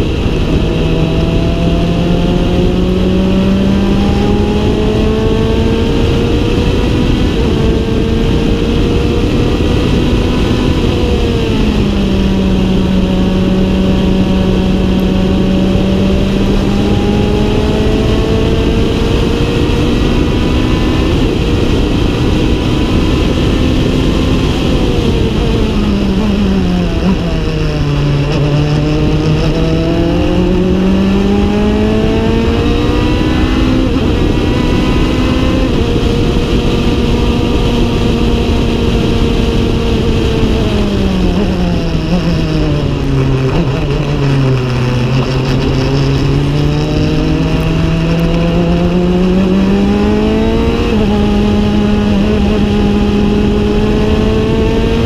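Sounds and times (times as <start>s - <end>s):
racing engine revving: 0.0s - 55.0s
wind and road noise: 0.0s - 55.0s.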